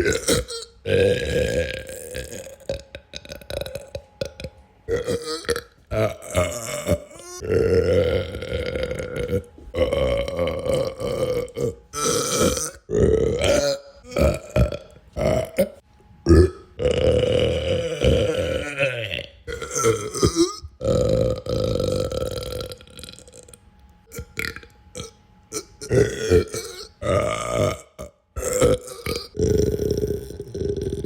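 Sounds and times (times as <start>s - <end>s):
person belching: 0.0s - 31.0s.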